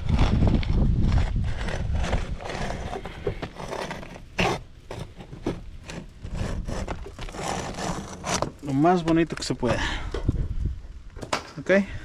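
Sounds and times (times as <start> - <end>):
blade scraping through shingle: 0.0 - 9.8.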